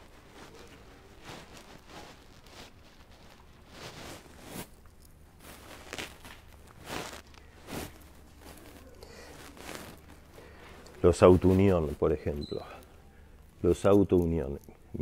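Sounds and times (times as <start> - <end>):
faint footsteps: 0.0 - 15.0.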